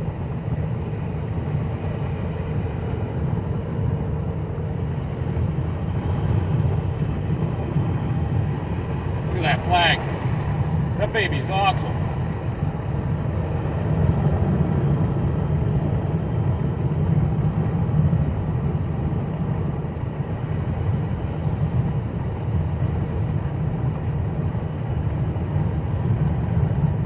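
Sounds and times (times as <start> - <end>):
truck engine and tyres rumbling: 0.0 - 27.0.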